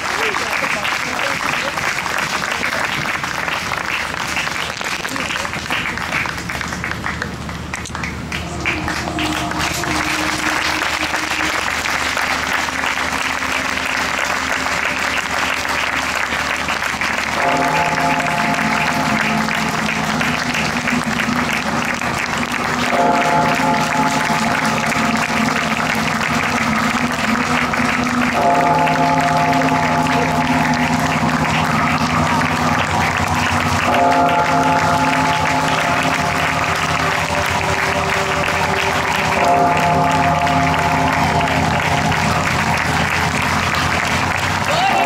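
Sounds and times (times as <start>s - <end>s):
music with long held notes: 0.0s - 1.0s, 6.6s - 45.0s
audience applauding: 0.0s - 45.0s.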